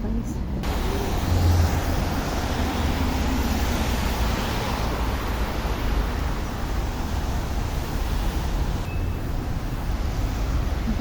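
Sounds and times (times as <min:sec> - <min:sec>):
passing vehicles rumble: 0:00.0 - 0:11.0
traffic hiss: 0:00.6 - 0:11.0.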